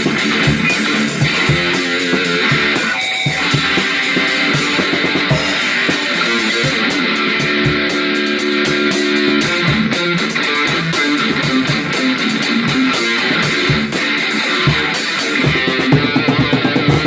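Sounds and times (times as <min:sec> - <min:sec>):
low thumping beat: 0:00.0 - 0:17.0
strummed guitar: 0:00.0 - 0:17.0.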